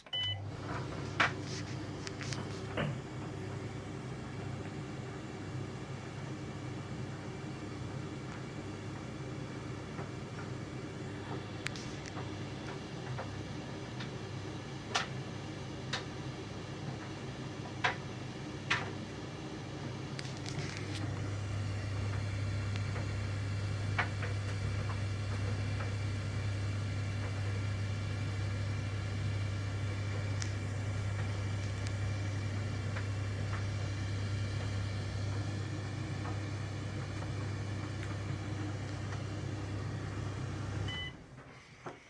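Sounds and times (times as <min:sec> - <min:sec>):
tumble dryer running: 0:00.0 - 0:42.0.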